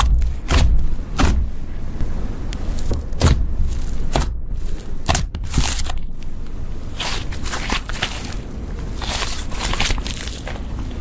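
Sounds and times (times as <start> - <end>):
slime squishing: 0.0 - 11.0.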